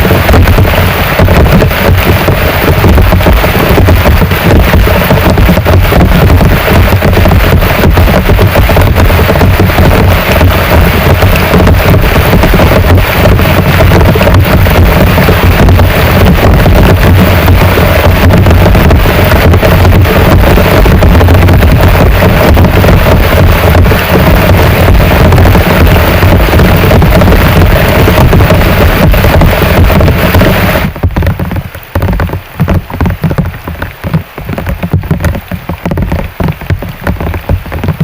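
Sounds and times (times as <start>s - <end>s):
heavy rain pouring: 0.0s - 38.0s
low rumble: 0.0s - 38.0s.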